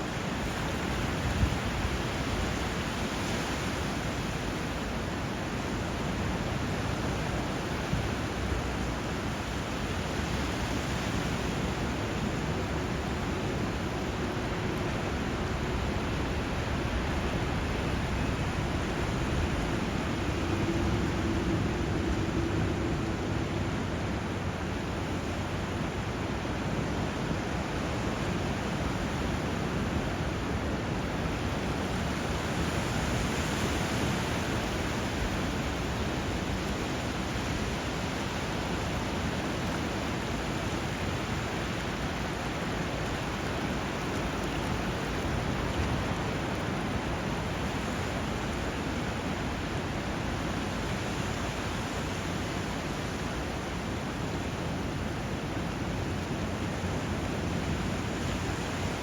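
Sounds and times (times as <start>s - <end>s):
rushing river water: 0.0s - 59.0s.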